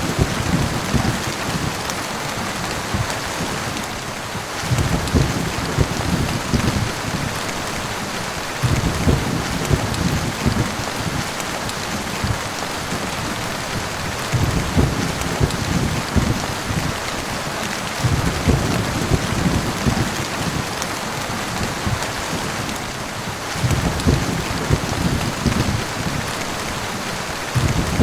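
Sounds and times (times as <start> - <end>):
thunder rumbling: 0.0 - 1.8, 2.5 - 20.8, 21.4 - 28.0
heavy rain: 0.0 - 28.0.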